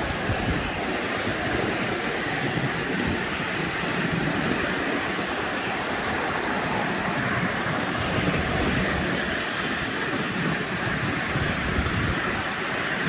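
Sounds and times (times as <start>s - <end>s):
miniature train rumbling on track: 0.0s - 13.0s.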